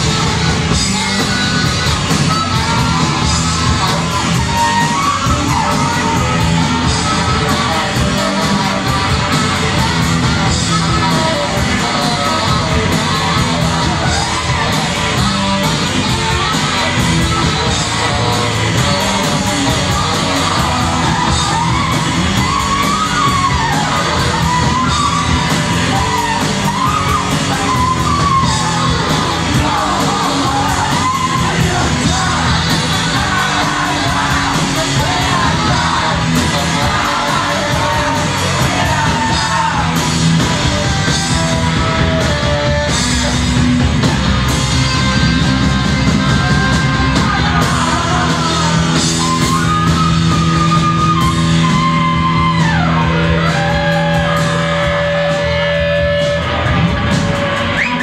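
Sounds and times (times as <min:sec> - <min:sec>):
live rock band playing: 0:00.0 - 0:58.0
yelled vocal: 0:00.0 - 0:58.0.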